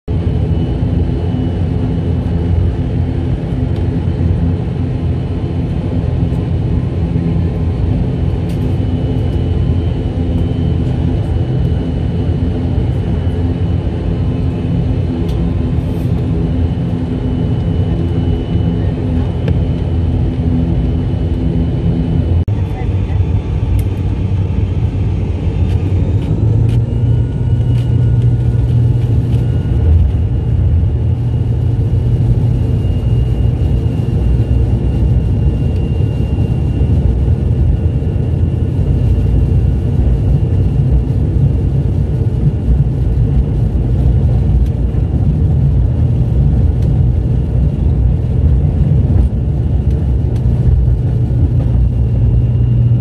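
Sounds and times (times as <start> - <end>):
deep engine hum: 0.1 - 53.0
propeller engine drone: 0.1 - 53.0.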